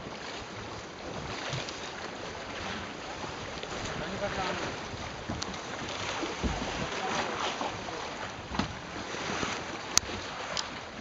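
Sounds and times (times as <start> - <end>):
water splashing against boat hull: 0.0 - 11.0
wind buffeting microphone: 0.0 - 11.0.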